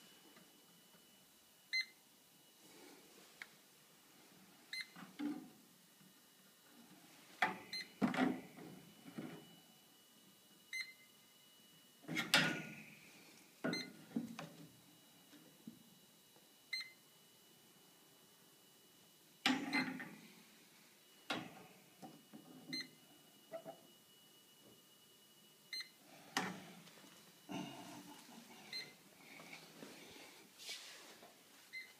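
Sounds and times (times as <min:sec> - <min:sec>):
faint high whine: 0:05.7 - 0:31.9.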